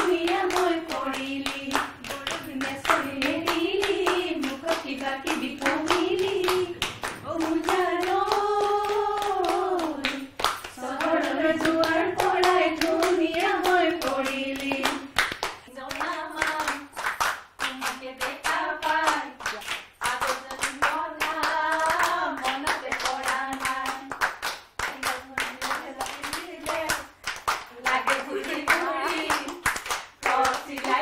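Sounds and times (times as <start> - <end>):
hands clapping in rhythm: 0.0 - 31.0
women singing together: 0.0 - 31.0.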